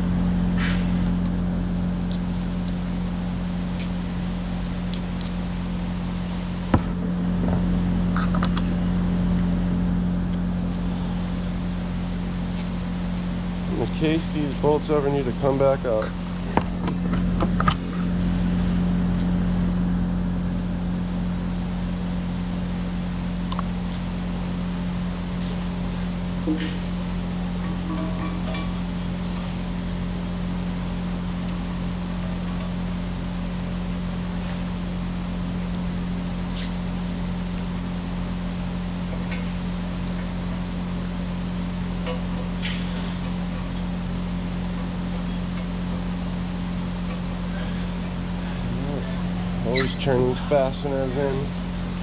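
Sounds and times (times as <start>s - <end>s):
diesel engine running: 0.0s - 52.0s
low mechanical hum: 0.0s - 52.0s.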